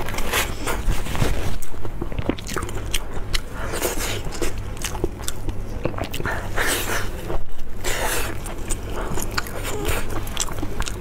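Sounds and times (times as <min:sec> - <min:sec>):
low steady hum: 0:00.0 - 0:11.0
chewing and tearing meat: 0:01.6 - 0:11.0.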